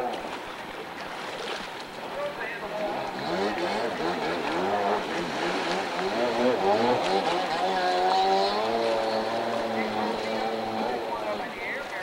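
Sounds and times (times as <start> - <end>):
jet ski engine revving: 2.2 - 11.8.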